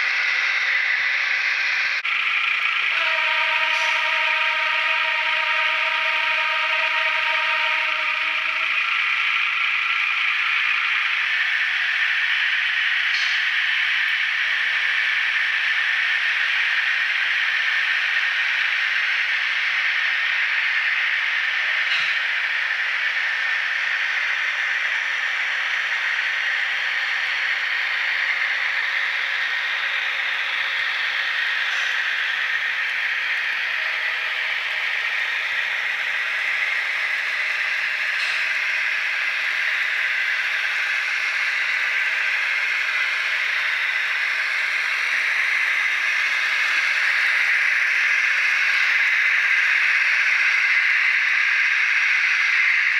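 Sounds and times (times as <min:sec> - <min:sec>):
model train engine sound: 0:00.0 - 0:52.9.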